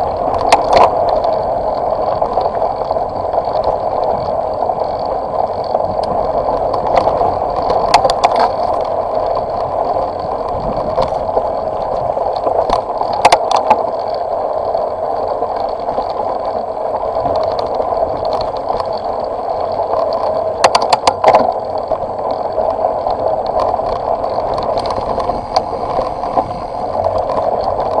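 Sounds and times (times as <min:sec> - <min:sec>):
wind rushing on microphone: 0:00.0 - 0:28.0.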